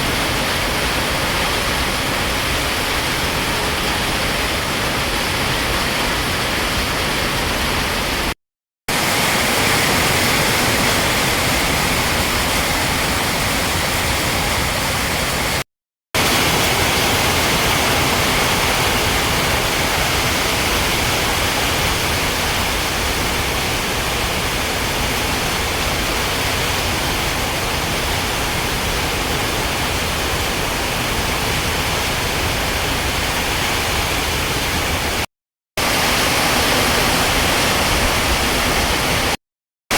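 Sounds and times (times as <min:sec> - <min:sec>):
heavy rain pouring: 0:00.0 - 0:15.6, 0:16.2 - 0:39.4.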